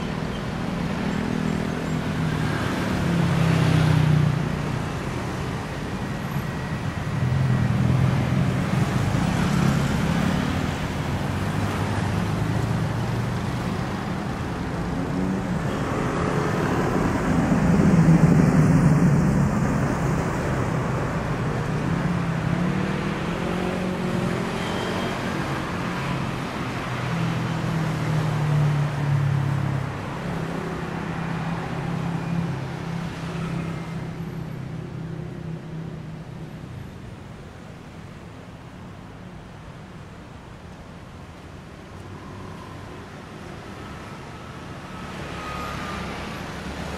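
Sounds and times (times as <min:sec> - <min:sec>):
tyre and road noise: 0:00.0 - 0:46.9
vehicles passing: 0:00.0 - 0:46.9.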